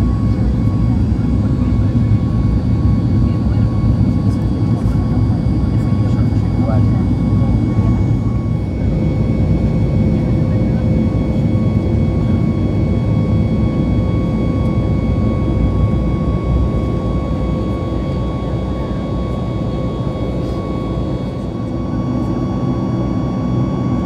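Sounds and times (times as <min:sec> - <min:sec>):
jet engine low roar: 0:00.0 - 0:24.0.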